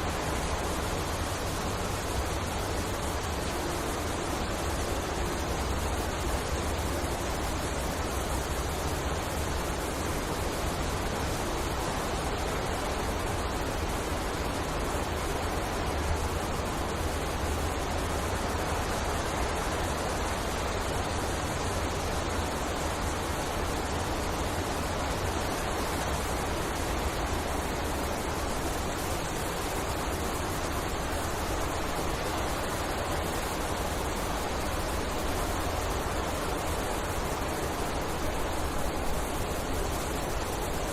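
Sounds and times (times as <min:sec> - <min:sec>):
wind blowing through forest: 0:00.0 - 0:40.9.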